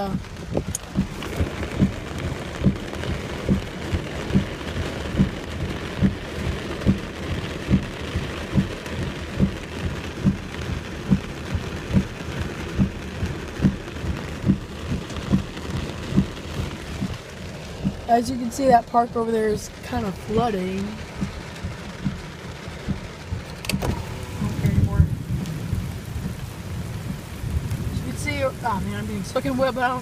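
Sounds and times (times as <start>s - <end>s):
regular low thump: 0.0s - 19.1s, 19.7s - 28.4s
heavy rain falling: 0.0s - 30.0s.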